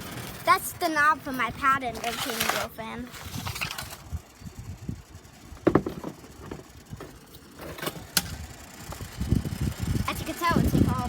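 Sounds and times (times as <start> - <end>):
box fan airflow rumble: 0.0 - 11.0.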